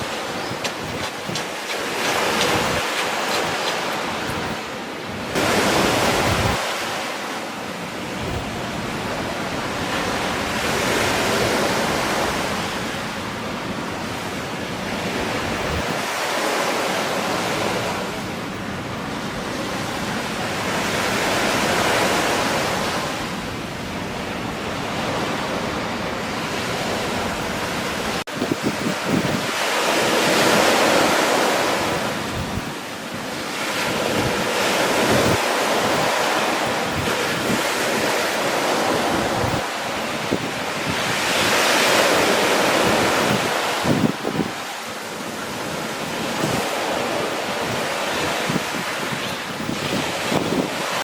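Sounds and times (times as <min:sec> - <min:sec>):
wind buffeting microphone: 0:00.0 - 0:07.1, 0:07.8 - 0:51.0
ocean waves breaking: 0:00.0 - 0:51.0.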